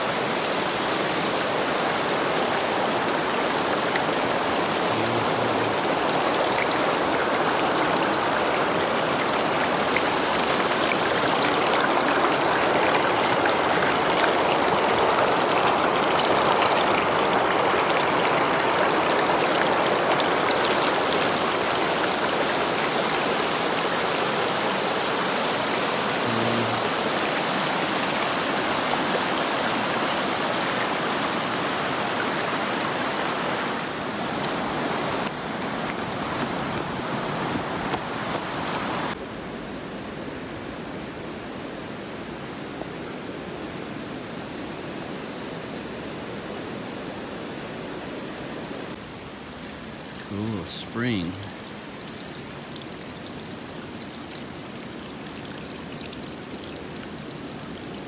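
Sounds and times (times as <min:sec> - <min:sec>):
river water rushing: 0:00.0 - 0:39.3, 0:39.9 - 0:58.0.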